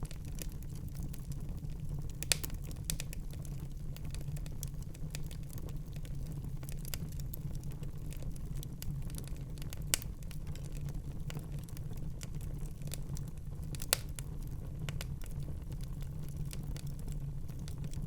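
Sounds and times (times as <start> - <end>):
fire popping and snapping: 0.0 - 18.0
low rumble of flames: 0.0 - 18.0.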